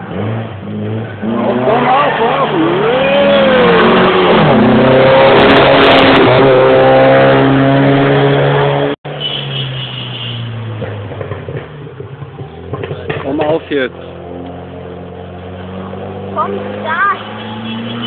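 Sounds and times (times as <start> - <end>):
racing car engine at high revs: 0.0 - 9.0, 10.7 - 18.0.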